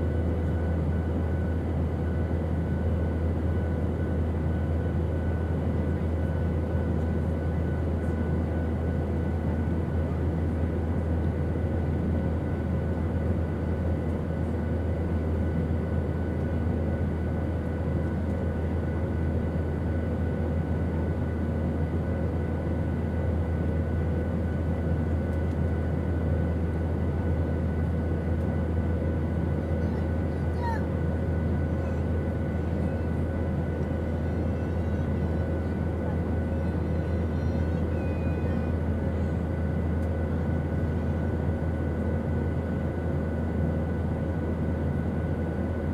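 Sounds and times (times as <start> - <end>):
airplane engine drone: 0.0 - 45.9.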